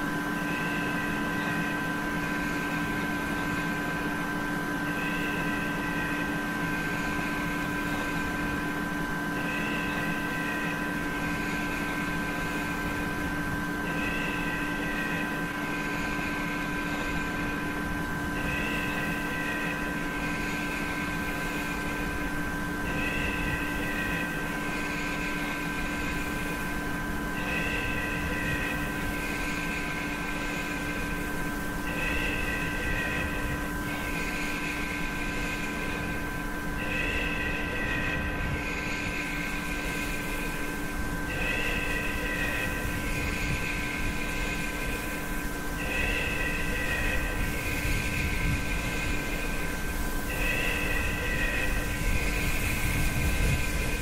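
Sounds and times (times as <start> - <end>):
electronic drone hiss: 0.0 - 54.0.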